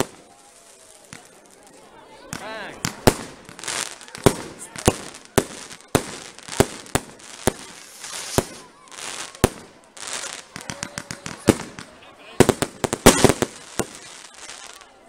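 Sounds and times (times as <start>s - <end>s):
crackling hiss: 0.0s - 15.0s
fireworks bangs: 0.0s - 15.0s.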